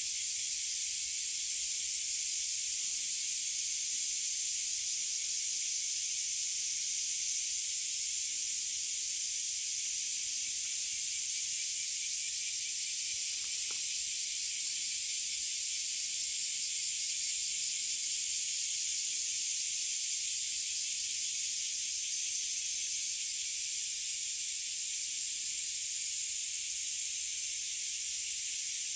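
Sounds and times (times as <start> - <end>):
steady high-pitched hiss: 0.0 - 28.9.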